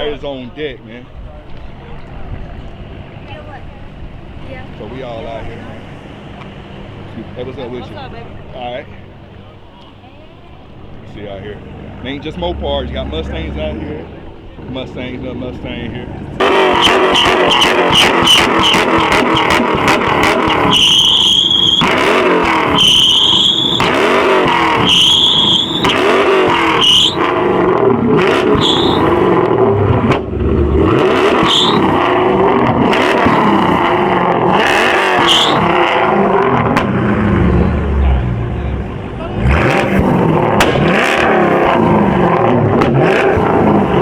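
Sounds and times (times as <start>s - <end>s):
muscle car engine revving: 0.0s - 44.0s
tires squealing: 0.0s - 44.0s.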